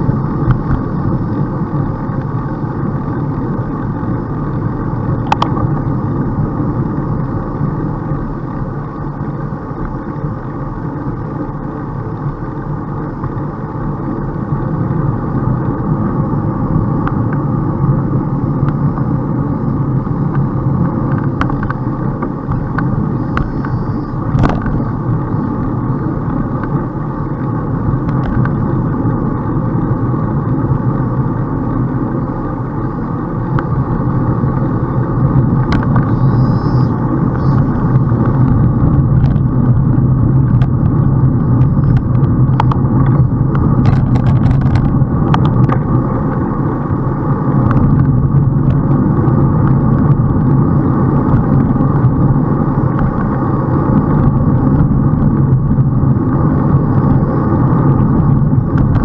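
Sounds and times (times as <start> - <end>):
bicycle road noise: 0.0 - 59.0
rushing wind: 0.0 - 59.0.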